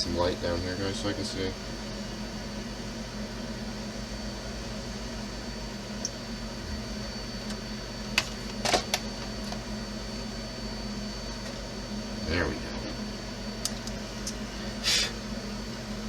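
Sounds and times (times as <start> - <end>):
background hum: 0.0 - 16.0.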